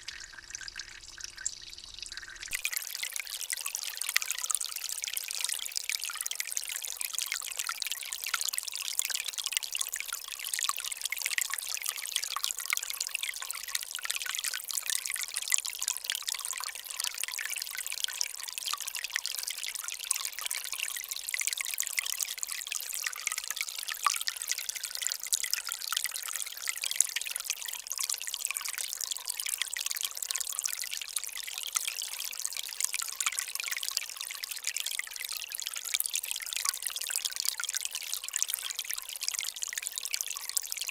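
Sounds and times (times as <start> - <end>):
water running and trickling: 0.0 - 40.9.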